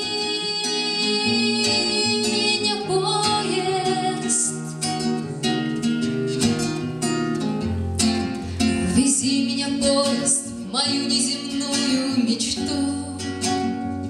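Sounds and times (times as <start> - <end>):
classical guitar strumming chords: 0.0 - 14.0.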